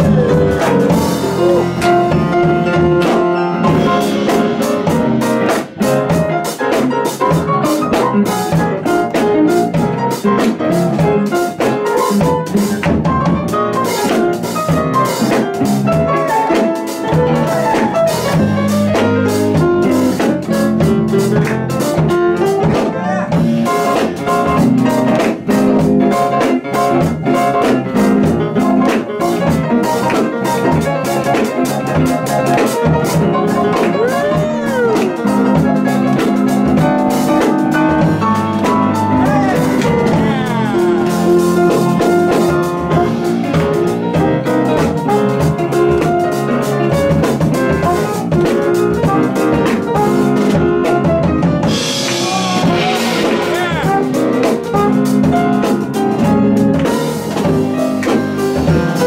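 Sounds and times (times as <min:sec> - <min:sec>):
drum kit with cymbals: 0:00.0 - 0:59.0
jazz piano: 0:00.0 - 0:59.0.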